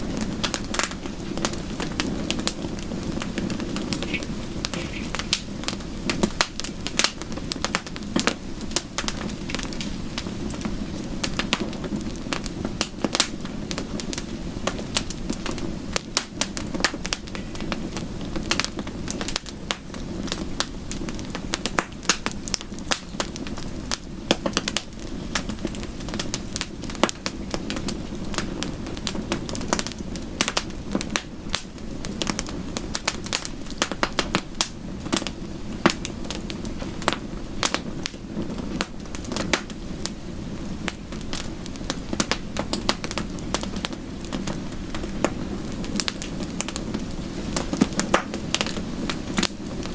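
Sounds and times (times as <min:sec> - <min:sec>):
steady low rush of fire: 0:00.0 - 0:49.9
wood fire crackling and popping: 0:00.0 - 0:49.9.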